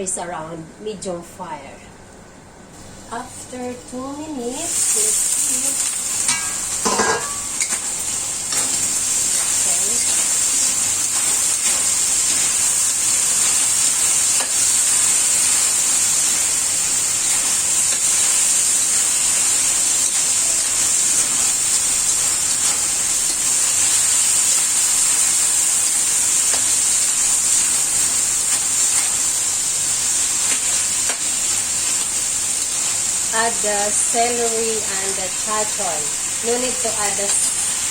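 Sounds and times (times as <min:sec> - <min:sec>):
food sizzling in a wok: 0:02.6 - 0:37.9.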